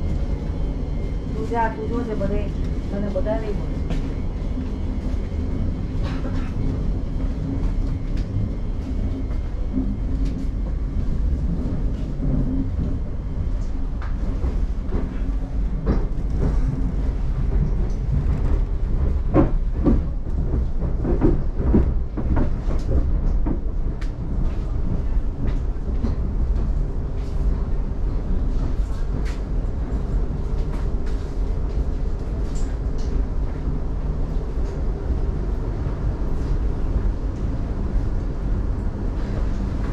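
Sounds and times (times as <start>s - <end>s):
train rumble in tunnel: 0.0s - 39.9s.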